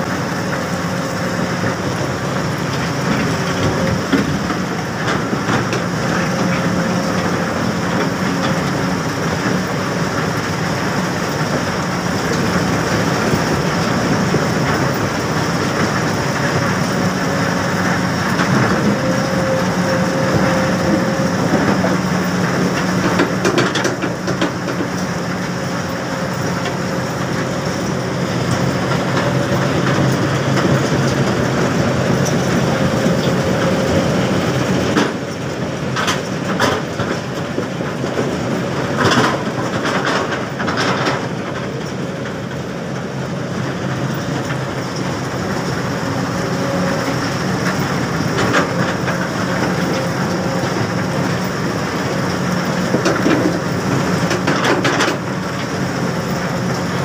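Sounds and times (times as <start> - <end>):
excavator engine drone: 0.0 - 57.0
rattle of rock and steel: 0.0 - 57.0.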